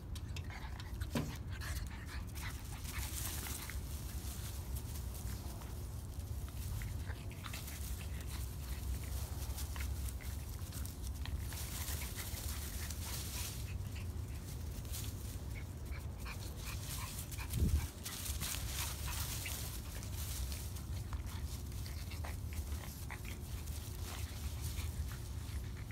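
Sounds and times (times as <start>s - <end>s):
rustling on grass: 0.2s - 25.9s.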